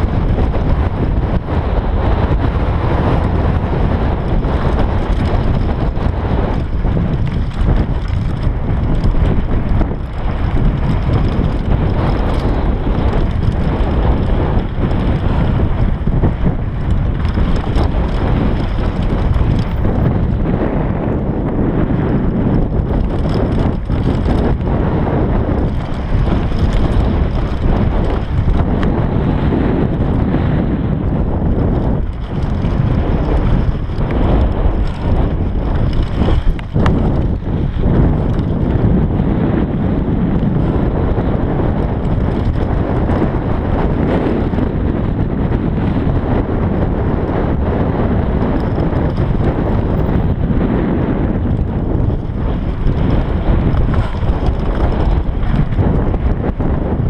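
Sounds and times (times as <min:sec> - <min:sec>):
bike knocks and clatter: 0:00.0 - 0:39.6, 0:40.5 - 0:45.0, 0:45.8 - 0:50.7, 0:51.3 - 0:57.0
bike tyres rumbling over gravel: 0:00.0 - 0:57.0
wind buffeting microphone: 0:00.0 - 0:57.0.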